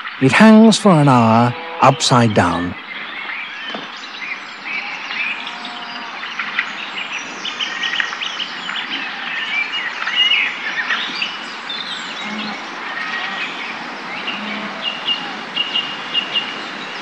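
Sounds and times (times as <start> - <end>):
outdoor ambience hiss: 0.0 - 17.0
songbirds chirping and singing: 0.0 - 17.0.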